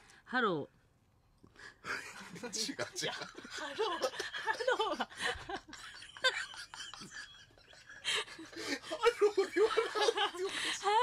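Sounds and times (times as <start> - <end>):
people laughing uncontrollably: 1.8 - 11.0.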